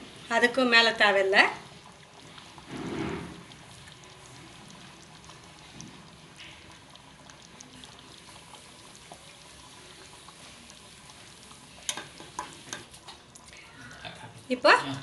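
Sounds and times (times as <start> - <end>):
gravy bubbling and popping: 0.0 - 15.0.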